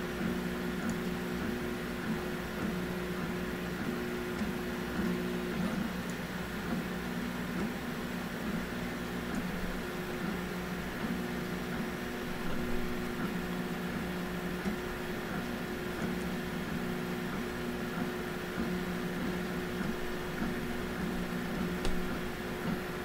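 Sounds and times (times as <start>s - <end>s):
cooling fan hiss: 0.0s - 23.0s.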